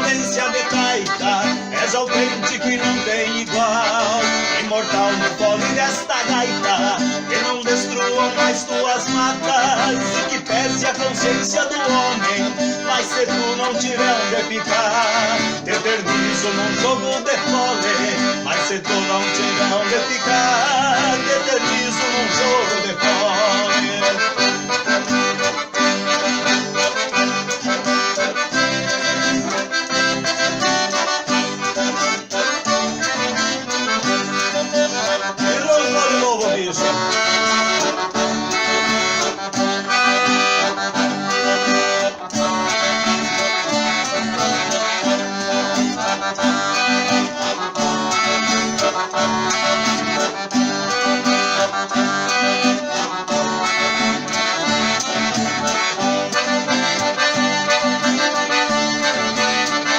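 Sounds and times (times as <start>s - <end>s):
accordion playing dance rhythm: 0.0s - 59.9s.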